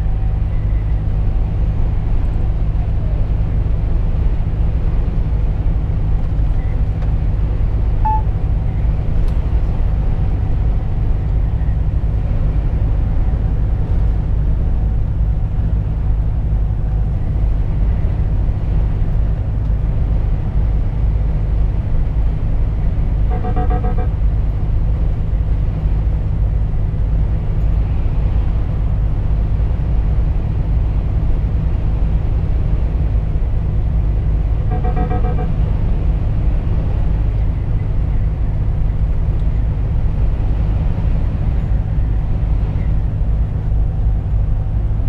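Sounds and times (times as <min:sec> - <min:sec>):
road noise: 0:00.0 - 0:45.0
truck diesel engine droning: 0:00.0 - 0:45.0.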